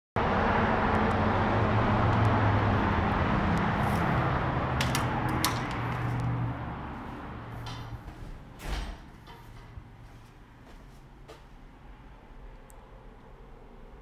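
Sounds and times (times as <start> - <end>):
mechanical hum and rushing: 0.2 - 14.0.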